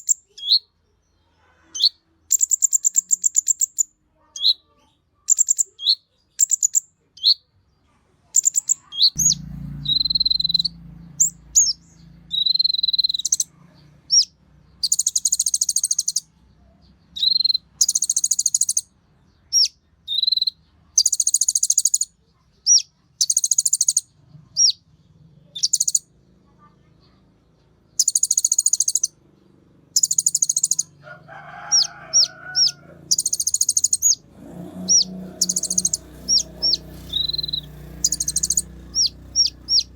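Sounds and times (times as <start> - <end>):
bird chirping and trilling: 0.0 - 0.7, 1.7 - 7.5, 8.4 - 16.3, 17.0 - 24.8, 25.4 - 26.1, 27.8 - 29.2, 29.8 - 39.9.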